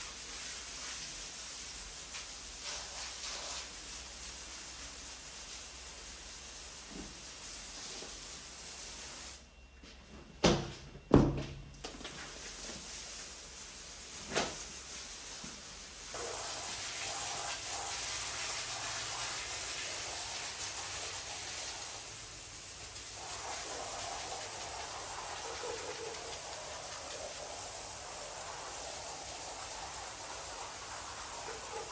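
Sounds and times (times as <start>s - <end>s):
pressure washer spraying water: 0.0s - 9.4s, 12.3s - 31.9s.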